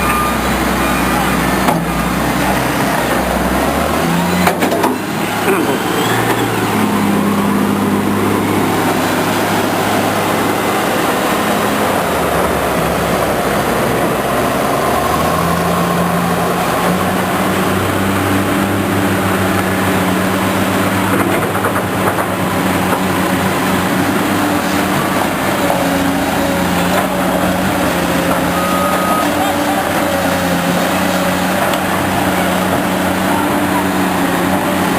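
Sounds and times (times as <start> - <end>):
construction machinery diesel engines: 0.0 - 34.9.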